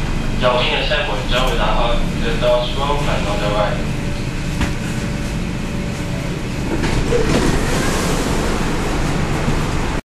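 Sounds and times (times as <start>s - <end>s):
train carriage rumble and hiss: 0.0s - 10.0s.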